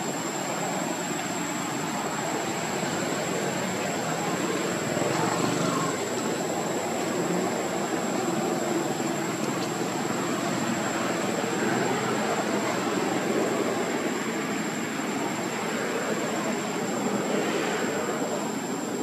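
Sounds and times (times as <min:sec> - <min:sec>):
continuous rushing noise: 0:00.0 - 0:19.0
high-pitched whine: 0:00.0 - 0:19.0.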